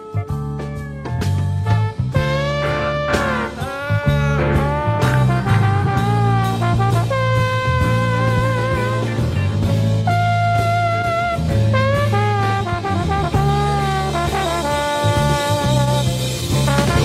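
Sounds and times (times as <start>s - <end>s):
bass and drums: 0.0s - 17.0s
horn section holding notes: 0.0s - 17.0s.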